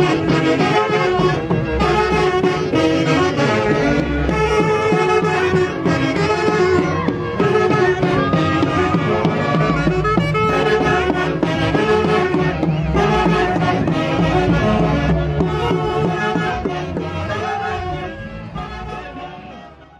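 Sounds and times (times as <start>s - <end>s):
saxophones: 0.0s - 19.9s
violins: 0.0s - 19.9s.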